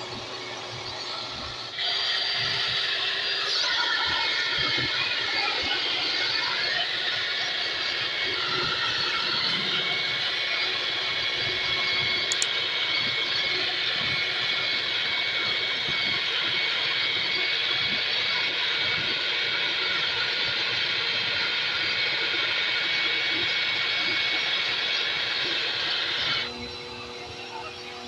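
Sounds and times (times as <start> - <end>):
water jet hissing: 0.0 - 26.5
pressure washer running: 0.0 - 28.0.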